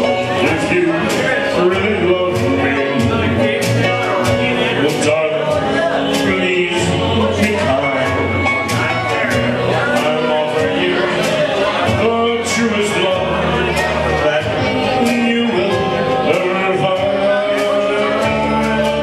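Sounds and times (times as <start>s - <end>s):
backing track with drum beat: 0.0s - 19.0s
man singing karaoke: 0.0s - 19.0s.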